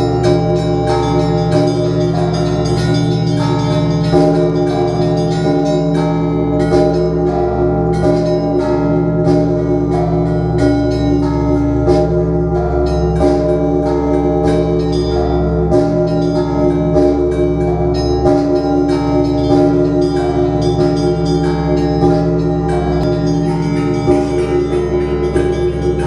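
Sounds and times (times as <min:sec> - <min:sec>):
bells ringing in a peal: 0:00.0 - 0:26.0.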